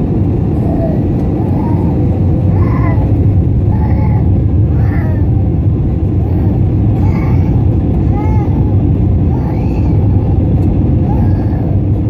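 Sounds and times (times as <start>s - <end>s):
jet engine and airflow rumble: 0.0s - 12.0s
baby crying: 0.6s - 5.4s, 6.2s - 10.4s, 11.0s - 11.9s.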